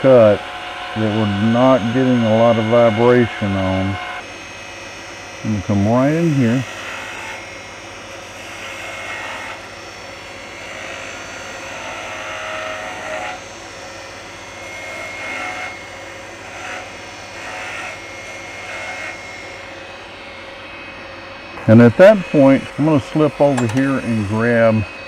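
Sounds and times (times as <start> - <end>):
turning tool cutting wood: 0.0 - 25.0
wood lathe humming: 0.0 - 25.0.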